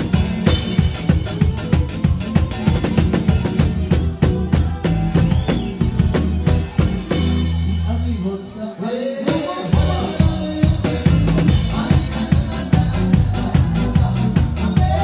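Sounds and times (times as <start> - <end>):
drum kit fast beat: 0.0 - 8.1, 9.3 - 15.0
electric guitar: 0.0 - 15.0.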